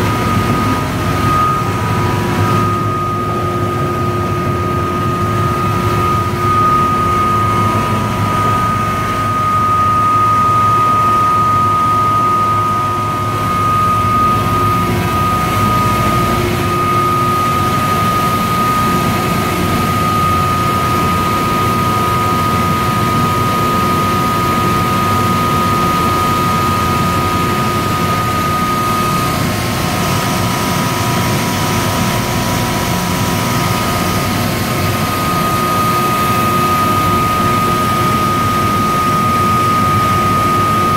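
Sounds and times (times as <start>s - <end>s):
extruder machine running: 0.0s - 40.9s
high constant machine tone: 0.0s - 40.9s.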